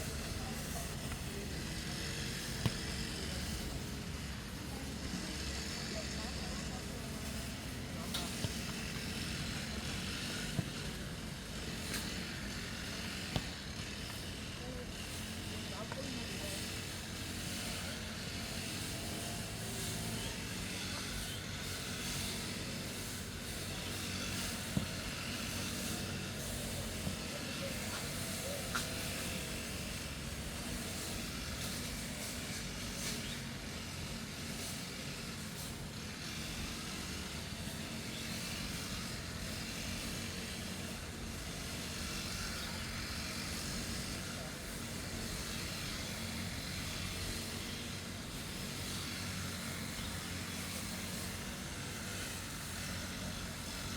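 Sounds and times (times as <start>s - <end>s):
grass cutter engine humming: 0.0s - 53.9s.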